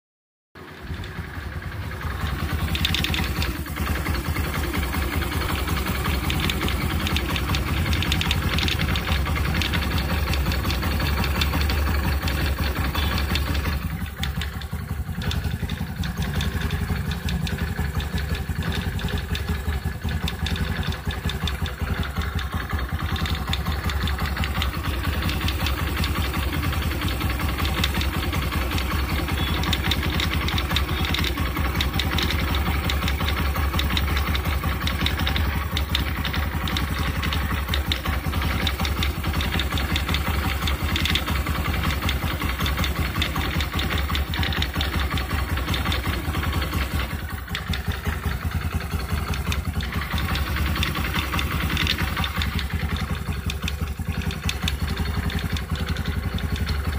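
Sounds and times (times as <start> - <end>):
scooter engine idling: 0.6 - 56.9.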